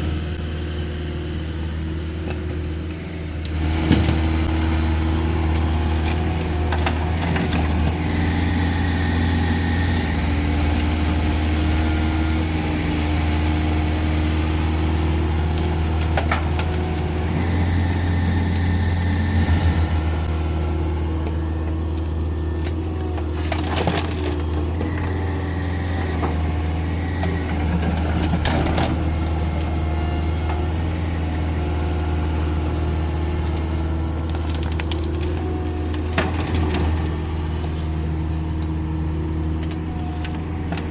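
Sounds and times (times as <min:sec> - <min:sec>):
excavator diesel engine running: 0:00.0 - 0:40.9
high engine whine: 0:00.0 - 0:40.9.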